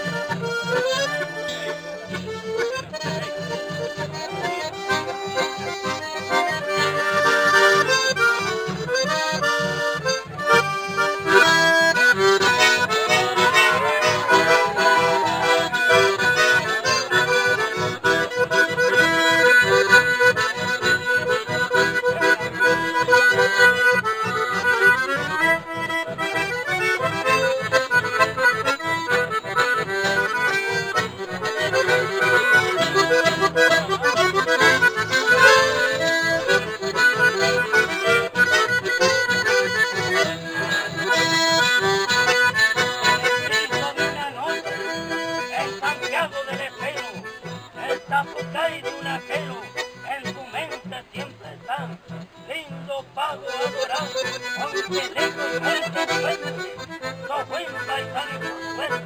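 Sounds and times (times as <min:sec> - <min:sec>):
accordion: 0:00.0 - 0:59.0
acoustic guitar strumming: 0:00.0 - 0:59.0.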